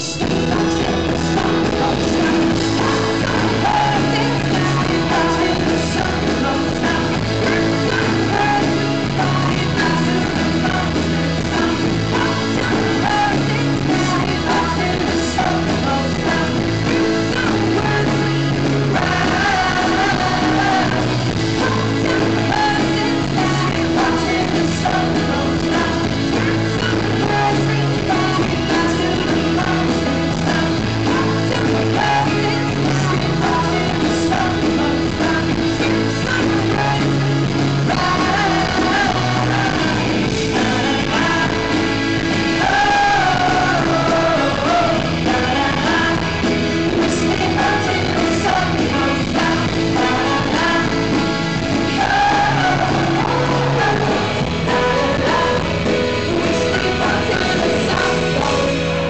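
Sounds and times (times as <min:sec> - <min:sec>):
folk rock band playing live: 0:00.0 - 0:59.0
people singing: 0:00.0 - 0:59.0.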